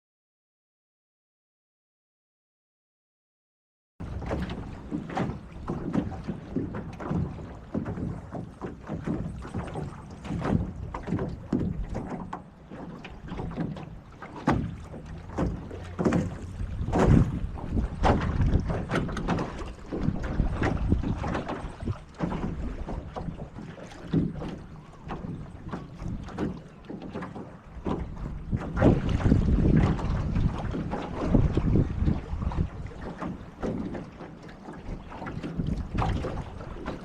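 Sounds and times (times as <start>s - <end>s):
wind buffeting microphone: 4.0s - 34.2s, 34.9s - 37.0s
water splashing on a boat: 4.0s - 37.0s.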